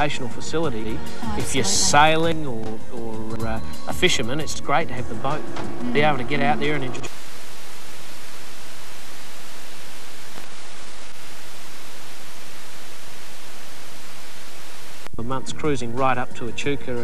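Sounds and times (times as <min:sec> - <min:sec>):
tape static hiss: 0:00.0 - 0:15.8.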